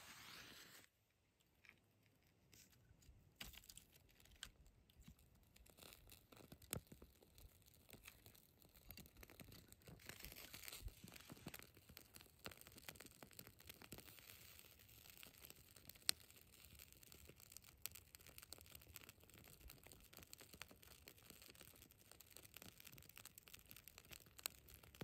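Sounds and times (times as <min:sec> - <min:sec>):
wood fire crackling and snapping: 0:03.4 - 0:25.0.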